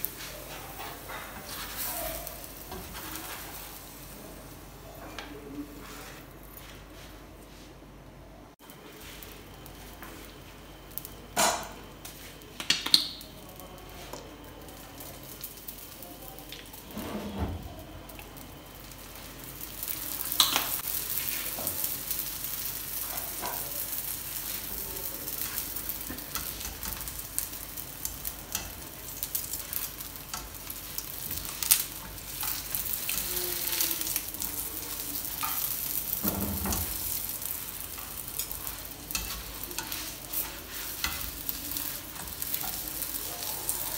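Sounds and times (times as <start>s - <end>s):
flatbread sizzling on griddle: 0.0s - 4.6s, 8.5s - 43.9s.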